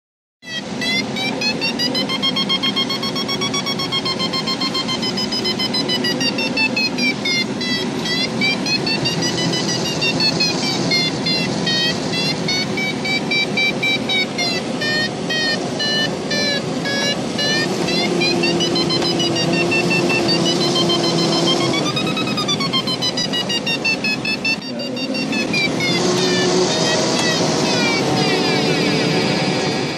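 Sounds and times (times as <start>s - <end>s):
variometer buzzy tone and beeps: 0.4s - 29.9s.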